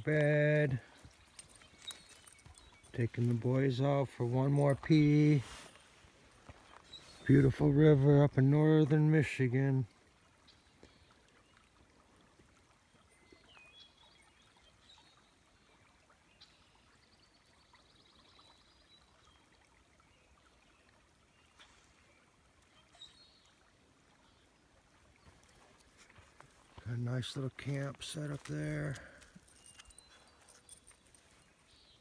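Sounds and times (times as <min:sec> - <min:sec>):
faint river flow: 0:00.0 - 0:32.0.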